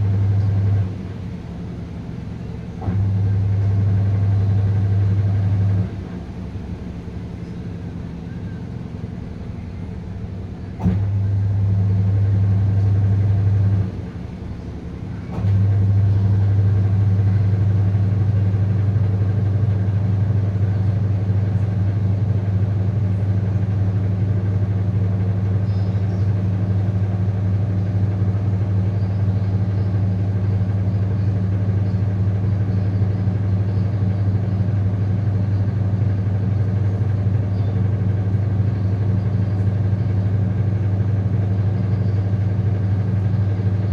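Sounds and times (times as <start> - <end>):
washing machine humming: 0.0 - 43.9.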